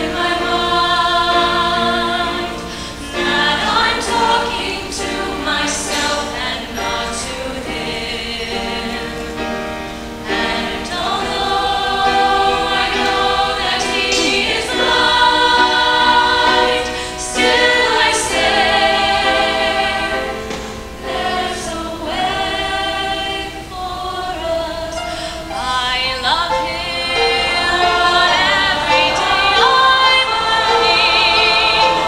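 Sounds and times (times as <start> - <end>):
mixed choir singing: 0.0 - 32.0.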